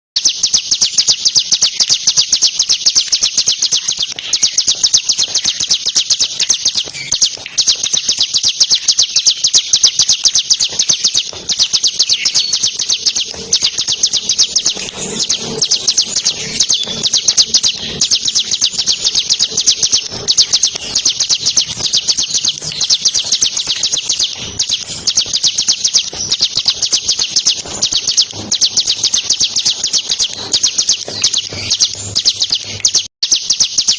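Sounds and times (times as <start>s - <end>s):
bird singing rapid trill: 0.2s - 33.9s.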